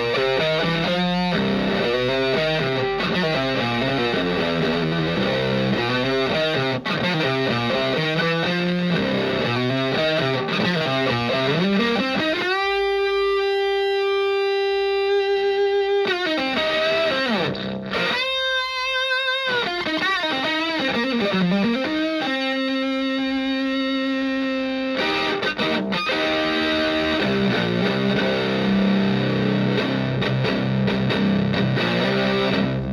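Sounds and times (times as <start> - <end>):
fuzzed electric guitar: 0.0 - 32.9.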